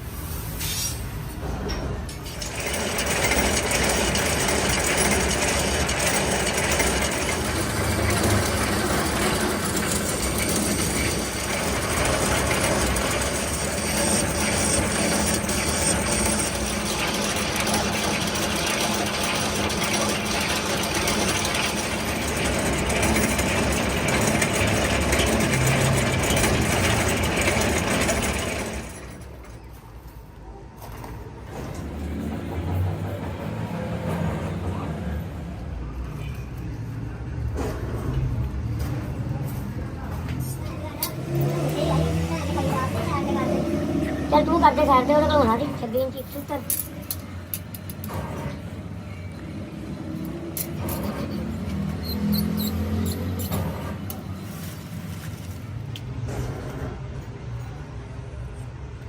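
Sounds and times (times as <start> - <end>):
workshop machinery clattering: 1.0 - 36.3, 37.4 - 57.2.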